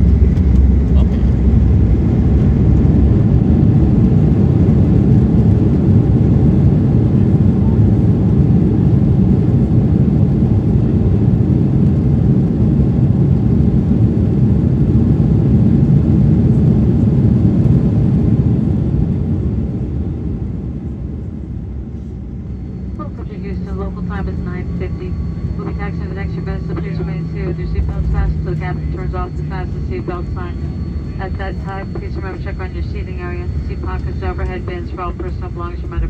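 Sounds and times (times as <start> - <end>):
jet engines rumbling in cabin: 0.0 - 36.0.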